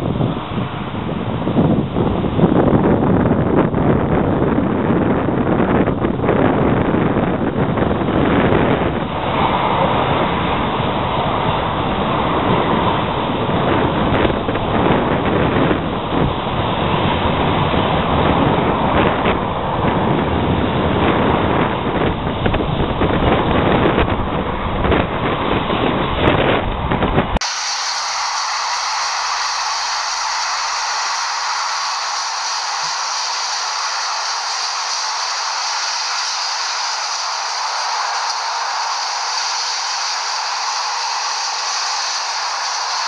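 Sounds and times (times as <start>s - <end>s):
freight train rumbling past: 0.0s - 43.0s
wind buffeting microphone: 0.0s - 43.0s.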